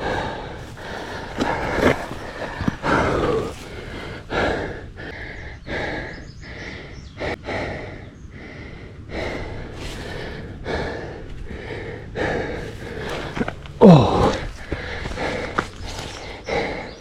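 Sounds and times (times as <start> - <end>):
person panting heavily: 0.0 - 17.0.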